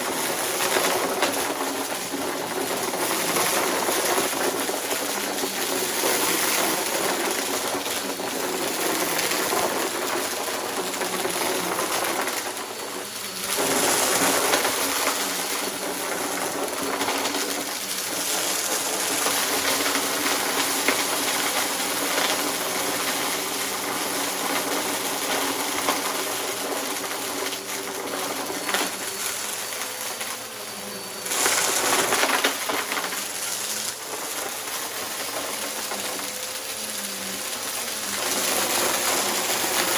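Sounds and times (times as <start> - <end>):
debris rattling into vacuum: 0.0 - 39.9
vacuum cleaner motor hum: 0.0 - 39.9.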